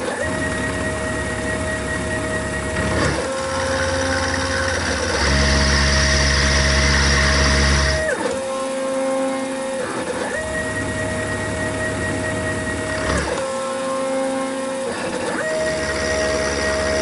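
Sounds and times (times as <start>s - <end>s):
milling machine motor whine: 0.0s - 17.0s.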